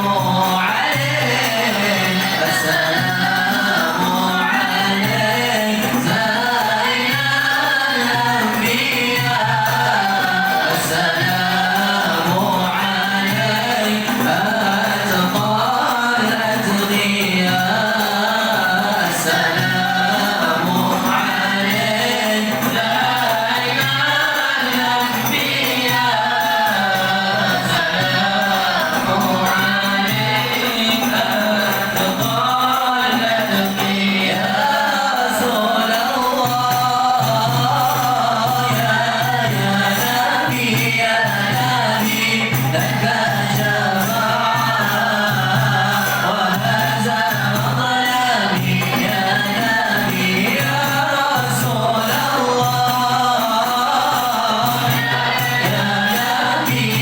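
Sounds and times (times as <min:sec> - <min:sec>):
group chanting devotional melody: 0:00.0 - 0:57.0.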